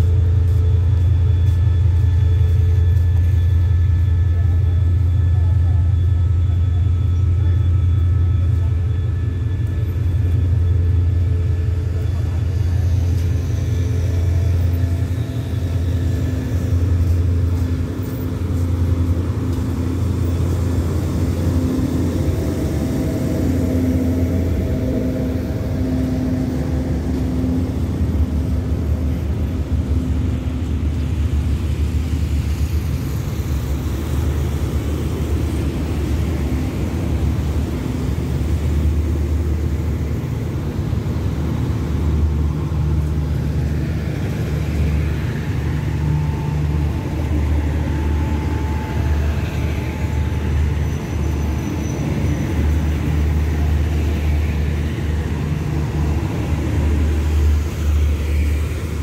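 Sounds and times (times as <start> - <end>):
low engine rumble: 0.0 - 59.0
passenger coaches running: 0.0 - 59.0.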